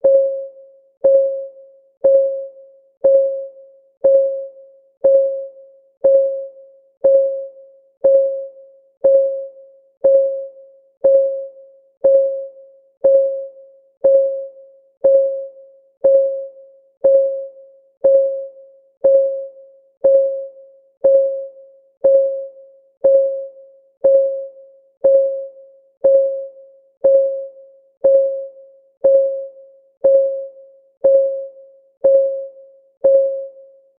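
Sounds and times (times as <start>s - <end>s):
electronic timer ticks: 0.0s - 33.7s.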